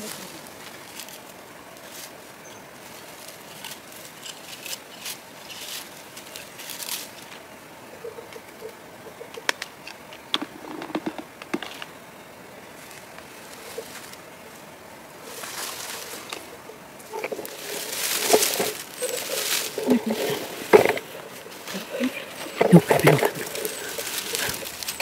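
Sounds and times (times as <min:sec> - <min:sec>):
berry bushes rustling: 0:00.0 - 0:25.0.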